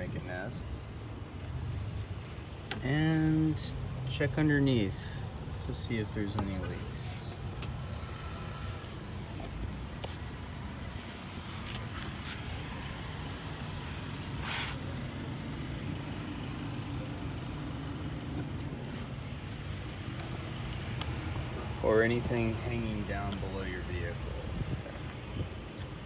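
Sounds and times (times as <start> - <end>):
low rumble of vehicles: 0.0 - 26.0.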